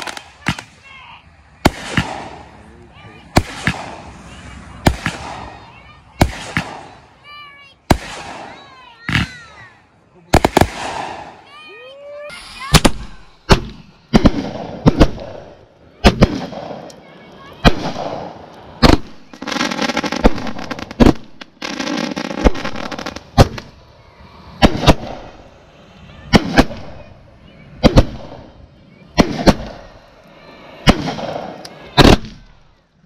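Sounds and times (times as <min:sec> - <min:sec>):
fireworks bangs: 0:00.0 - 0:32.9
fireworks buzzing: 0:00.0 - 0:33.0.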